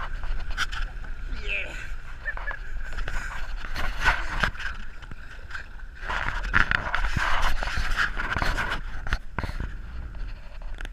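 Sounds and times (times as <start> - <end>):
kayak knocks and scrapes: 0.0 - 1.3, 1.9 - 10.9
paddle strokes in water: 0.0 - 10.9.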